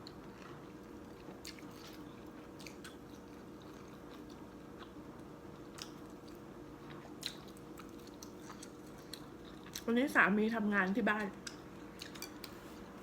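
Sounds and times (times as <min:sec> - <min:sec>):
person chewing food: 0:00.0 - 0:09.9, 0:11.4 - 0:12.8
faint steady hum: 0:00.0 - 0:13.0.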